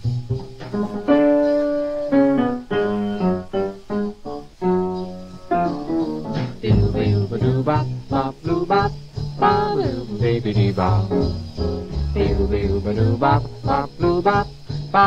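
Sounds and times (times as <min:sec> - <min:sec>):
piano tune with bass line: 0:00.0 - 0:15.0.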